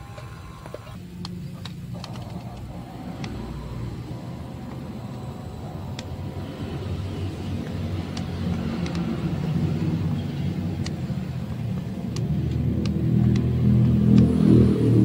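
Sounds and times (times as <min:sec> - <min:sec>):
model boat engine rumble: 0:00.0 - 0:15.0
sharp ticks: 0:01.2 - 0:14.6.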